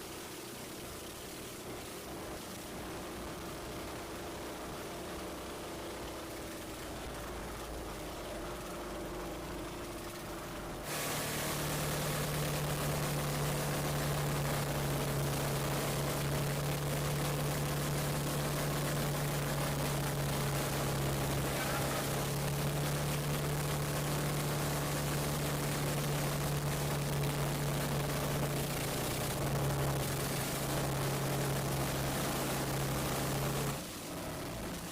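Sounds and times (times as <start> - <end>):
boat engine humming: 0.0 - 34.9
wind and water hiss: 0.0 - 34.9.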